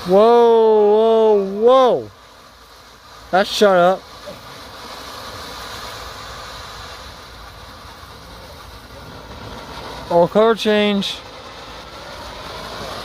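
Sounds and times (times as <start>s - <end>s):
firework spraying sparks hiss: 0.0s - 13.0s.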